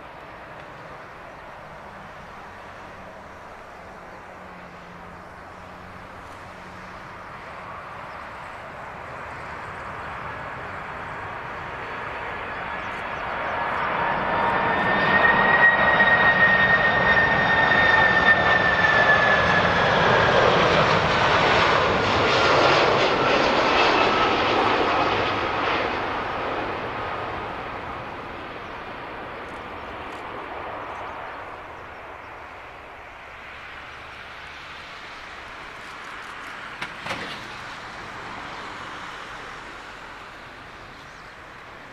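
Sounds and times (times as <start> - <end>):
high engine whine: 0.0 - 41.9
jet airliner passing by: 0.0 - 41.9.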